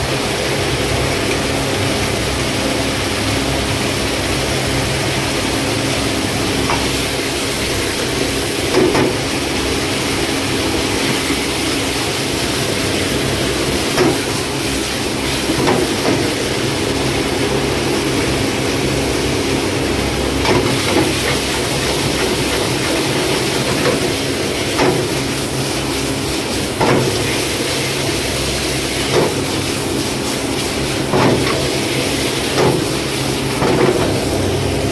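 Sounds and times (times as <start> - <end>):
gas burner rushing: 0.0 - 34.9
food sizzling in a wok: 3.9 - 34.9.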